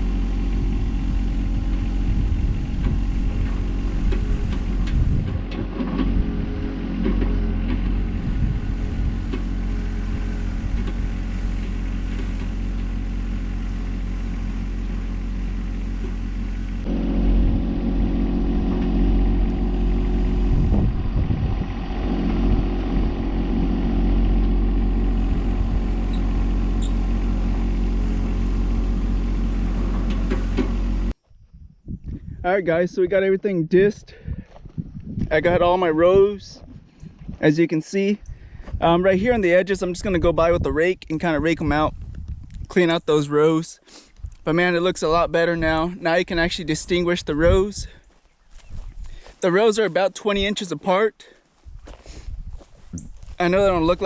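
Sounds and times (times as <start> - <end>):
tractor engine running: 0.0 - 31.2, 34.4 - 54.0.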